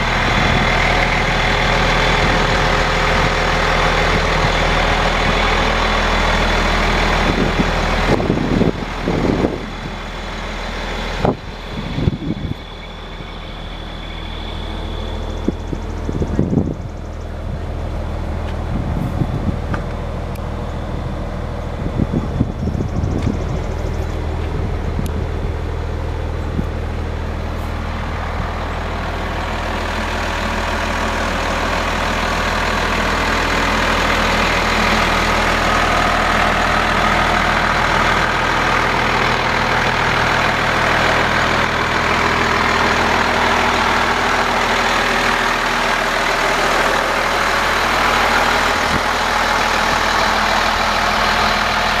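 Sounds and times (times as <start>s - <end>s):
diesel truck engine idling: 0.0s - 52.0s
rushing noise: 0.0s - 52.0s.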